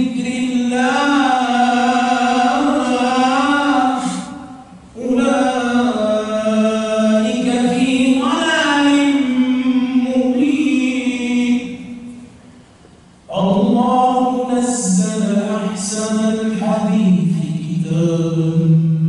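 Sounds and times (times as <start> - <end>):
man chanting into a microphone: 0.0 - 12.3, 13.3 - 19.0.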